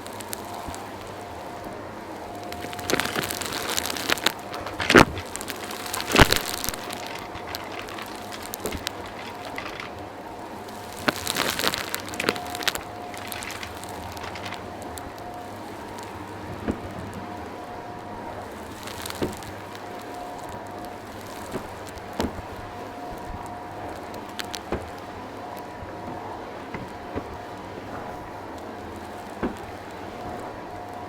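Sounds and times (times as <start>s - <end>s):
vacuum cleaner crackling debris: 0.0s - 31.0s.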